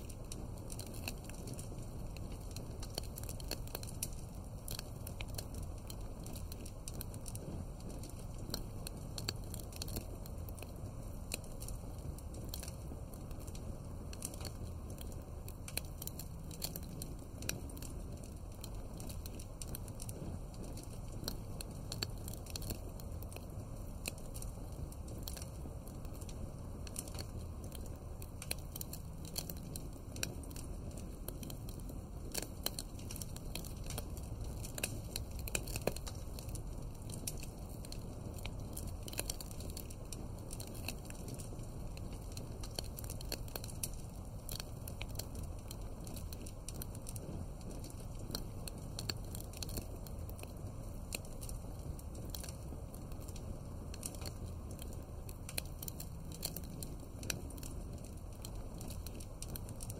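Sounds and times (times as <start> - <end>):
low rumble of flames: 0.0 - 59.9
wood fire crackling: 0.0 - 59.9.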